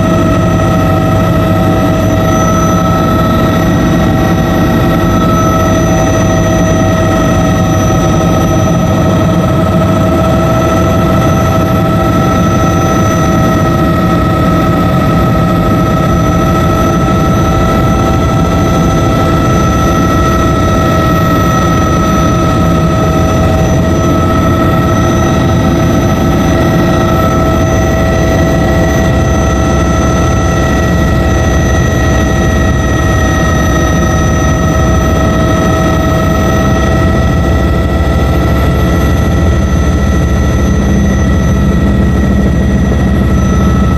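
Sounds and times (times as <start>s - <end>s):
helicopter turbine whine and rumble: 0.0s - 43.9s.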